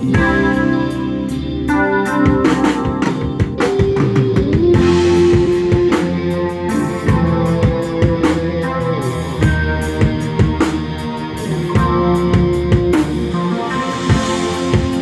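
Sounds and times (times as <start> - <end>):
drum kit steady beat: 0.0 - 15.0
guitar and bass chords: 0.0 - 15.0.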